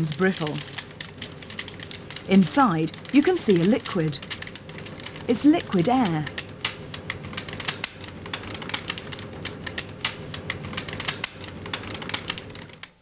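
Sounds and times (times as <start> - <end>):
low steady hum: 0.0 - 12.8
frozen balloon crackling: 0.0 - 13.0.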